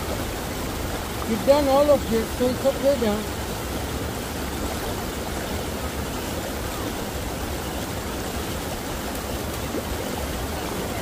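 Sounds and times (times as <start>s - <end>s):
rushing stream: 0.0s - 11.0s.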